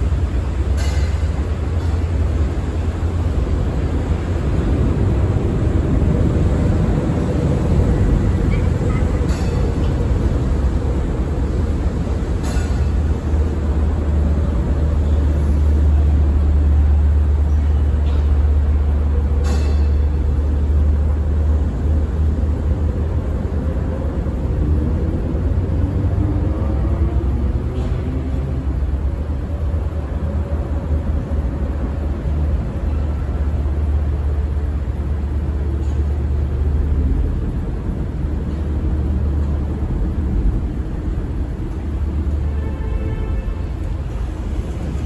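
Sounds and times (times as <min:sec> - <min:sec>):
engines idling: 0:00.0 - 0:45.0.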